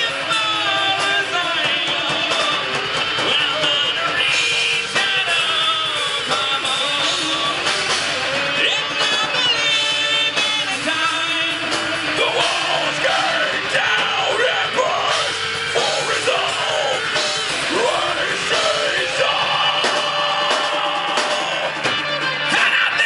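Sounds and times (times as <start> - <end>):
live rock band playing: 0.0 - 23.0
person singing: 0.0 - 23.0.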